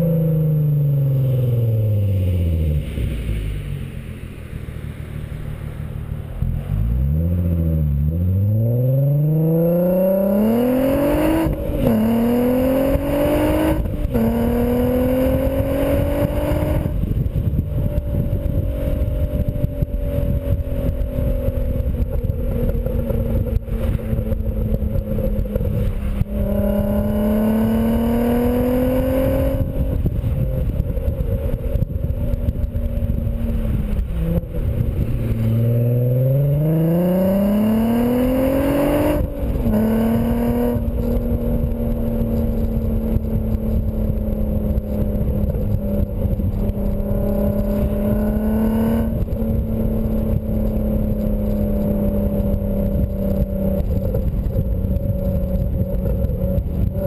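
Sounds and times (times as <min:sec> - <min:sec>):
car engine revving: 0:00.0 - 0:57.0
wind buffeting microphone: 0:10.0 - 0:57.0.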